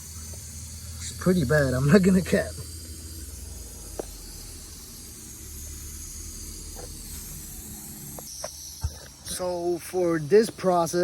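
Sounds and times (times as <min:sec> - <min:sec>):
background hiss: 0:00.0 - 0:11.0
low constant hum: 0:00.0 - 0:11.0.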